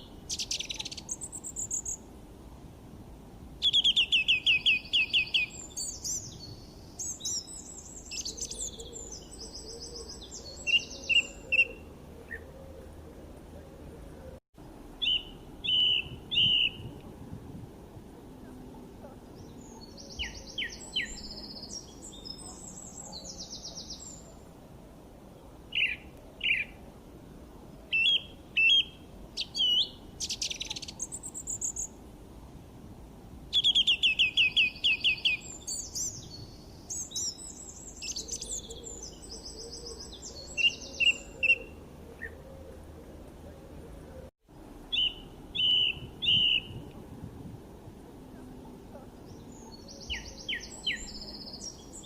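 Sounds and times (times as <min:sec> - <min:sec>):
songbirds chirping and trilling: 0:00.0 - 0:02.5, 0:03.2 - 0:32.0, 0:33.5 - 0:47.0, 0:48.0 - 0:52.0
faint background hiss: 0:00.0 - 0:52.0.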